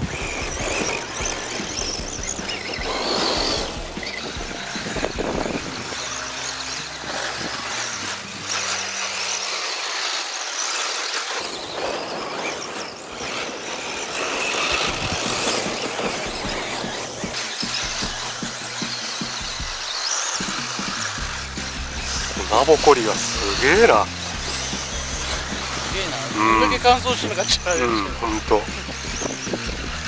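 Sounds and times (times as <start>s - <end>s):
electric rc cars whining: 0.0s - 30.0s.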